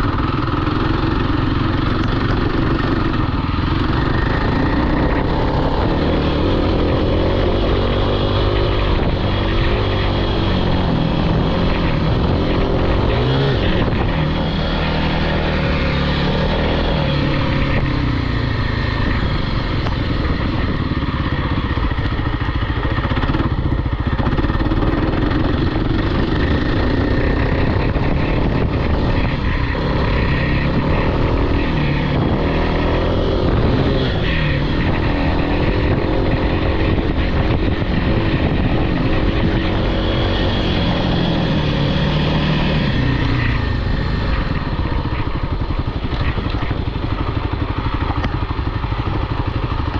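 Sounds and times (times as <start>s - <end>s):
off-road vehicle engine revving: 0.0s - 21.8s, 22.9s - 49.0s.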